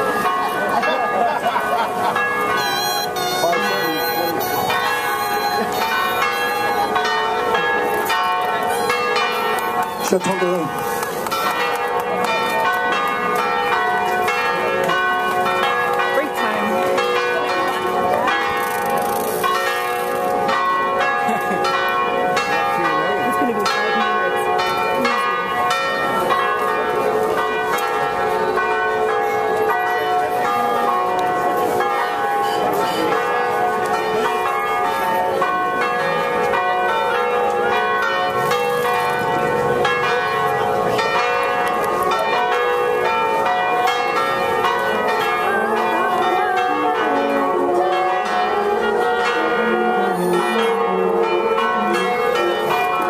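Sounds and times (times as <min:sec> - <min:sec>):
church bells ringing a peal: 0:00.0 - 0:53.0.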